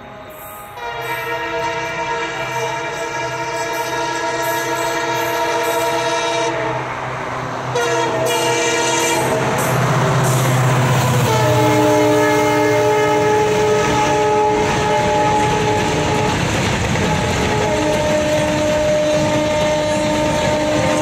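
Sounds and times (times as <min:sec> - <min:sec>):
locomotive air horn chord: 0:00.0 - 0:07.1, 0:07.7 - 0:21.0.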